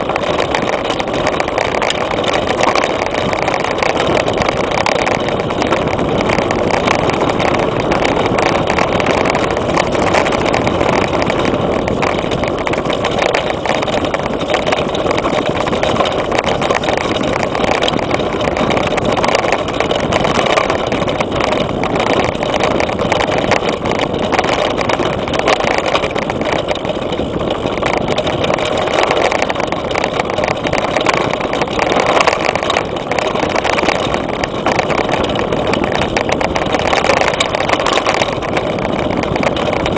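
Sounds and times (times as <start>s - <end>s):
mountain bike riding on dirt trail: 0.0s - 39.9s
small clicks and rattles: 0.0s - 39.9s.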